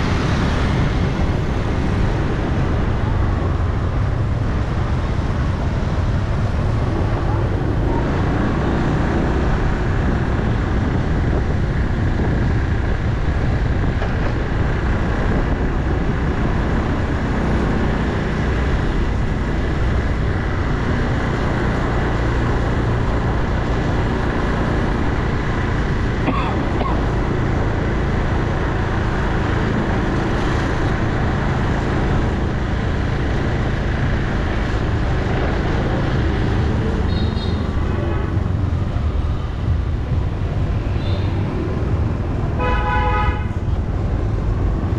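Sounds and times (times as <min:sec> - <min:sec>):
road noise: 0:00.0 - 0:44.9
wind noise: 0:00.0 - 0:44.9.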